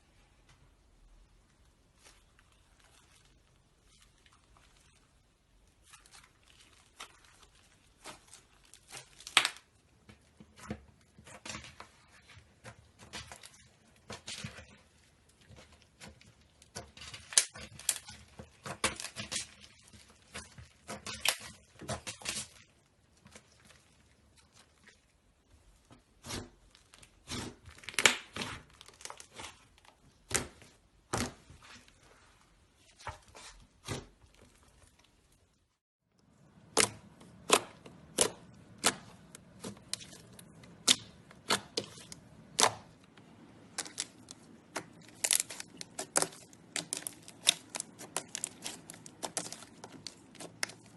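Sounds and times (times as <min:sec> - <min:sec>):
slime popping and crackling: 0:02.0 - 0:24.8, 0:26.2 - 0:31.4, 0:36.5 - 0:50.9.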